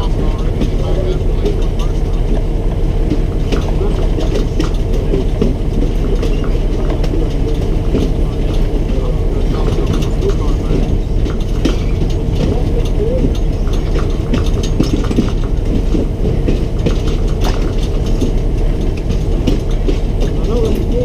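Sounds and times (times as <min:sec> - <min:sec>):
train rumbling along track: 0:00.0 - 0:21.0
wheels clattering on rails: 0:00.0 - 0:21.0.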